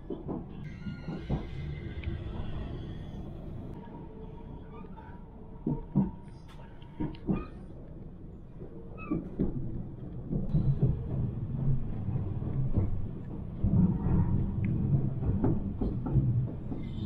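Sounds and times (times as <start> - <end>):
train wheels rumbling on track: 0.0 - 4.0, 5.6 - 17.0.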